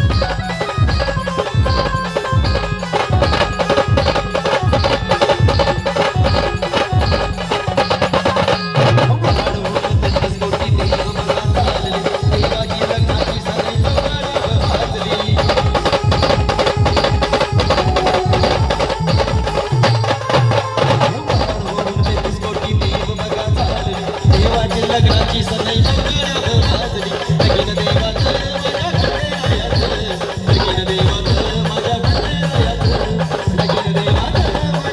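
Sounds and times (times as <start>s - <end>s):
steady drum beat: 0.0s - 34.9s.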